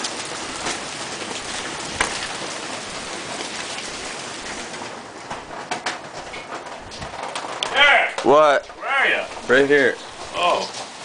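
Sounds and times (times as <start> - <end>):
hailstones clattering: 0.0 - 11.0.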